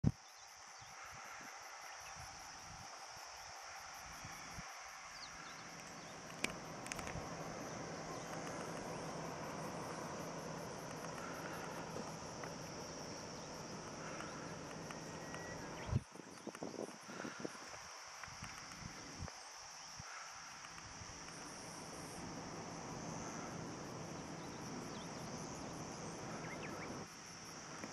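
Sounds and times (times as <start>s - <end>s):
insects singing: 0.0s - 27.9s.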